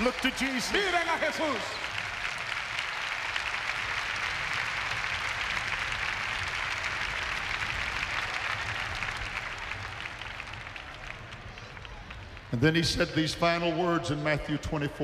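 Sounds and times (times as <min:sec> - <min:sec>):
congregation applauding: 0:00.0 - 0:14.9.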